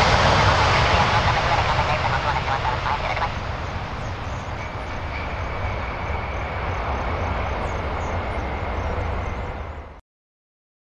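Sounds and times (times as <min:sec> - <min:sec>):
faint jet engine whine: 0:00.0 - 0:10.0
jet engines rumbling: 0:00.0 - 0:10.0.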